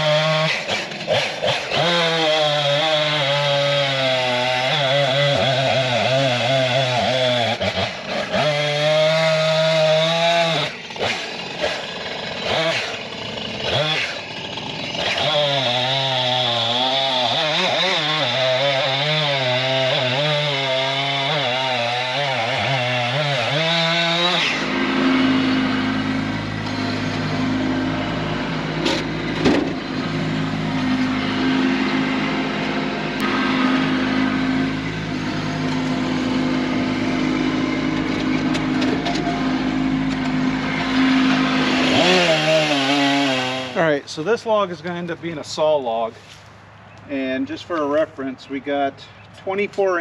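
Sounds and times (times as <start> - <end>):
chainsaw cutting through log: 0.0 - 44.3.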